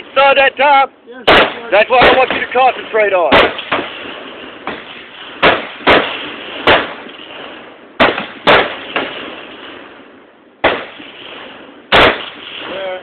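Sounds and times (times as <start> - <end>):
rifle shots with echo: 1.2 - 13.0.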